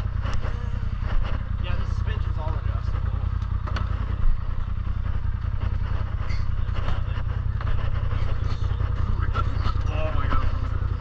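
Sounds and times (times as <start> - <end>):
low engine rumble: 0.0 - 11.0
rattles and clicks: 0.0 - 11.0.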